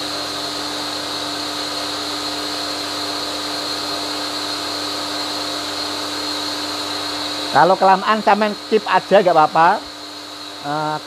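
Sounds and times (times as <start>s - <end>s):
pressure washer humming and whining: 0.0s - 11.0s.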